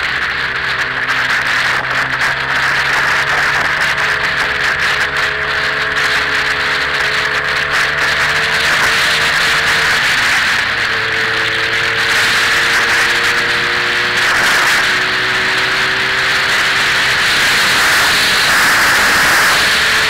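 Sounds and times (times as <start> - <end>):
motorcycle engine cruising: 0.0 - 20.0
wind rush on microphone: 0.0 - 20.0.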